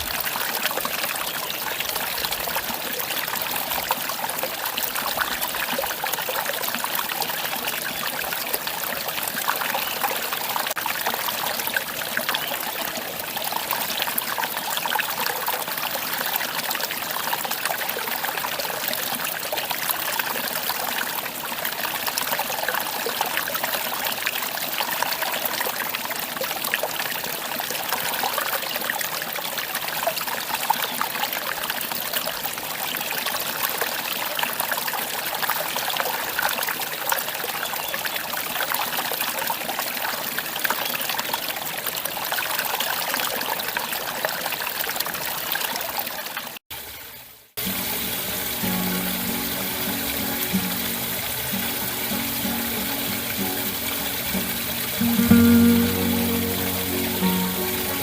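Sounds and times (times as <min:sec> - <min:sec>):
stream water trickling: 0:00.0 - 0:58.0.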